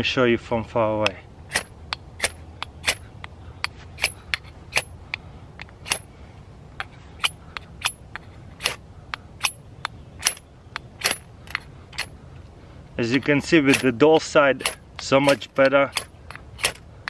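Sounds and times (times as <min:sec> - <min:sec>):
axe scraping flint rod: 0:01.0 - 0:06.1, 0:06.7 - 0:12.2, 0:13.0 - 0:17.0.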